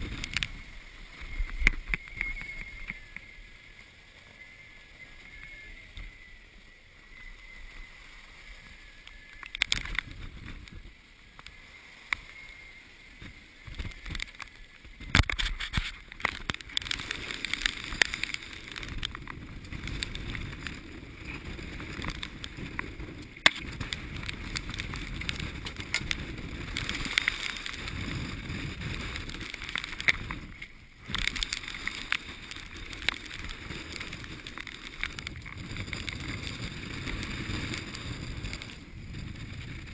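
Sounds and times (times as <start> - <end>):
water splashing around hull: 0.0 - 39.9.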